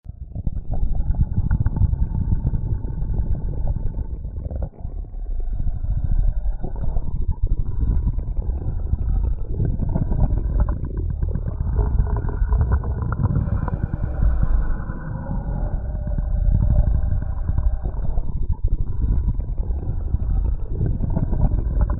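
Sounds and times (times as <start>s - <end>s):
muffled low rumbling: 0.0s - 21.9s.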